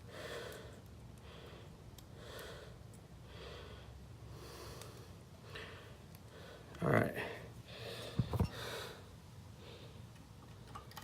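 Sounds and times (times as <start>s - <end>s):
man breathing heavily: 0.0s - 10.1s.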